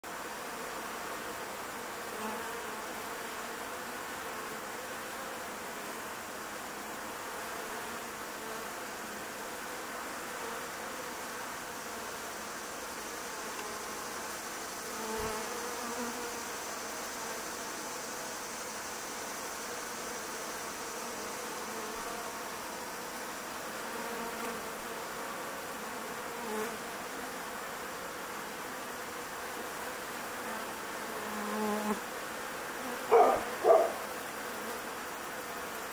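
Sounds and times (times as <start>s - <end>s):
honeybees buzzing: 0.1s - 35.9s.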